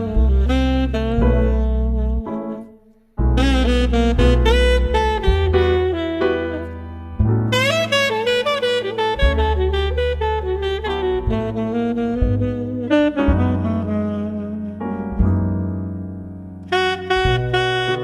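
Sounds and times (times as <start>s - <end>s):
bass line: 0.0s - 18.0s
saxophone jazz melody: 0.0s - 18.0s.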